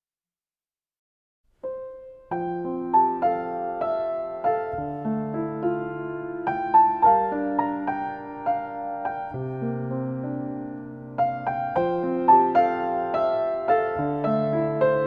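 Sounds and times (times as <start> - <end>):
soft piano music: 1.6 - 15.0.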